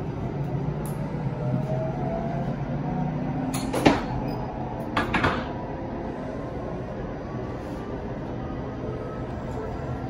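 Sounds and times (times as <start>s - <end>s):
train rumble and hum: 0.0s - 10.0s.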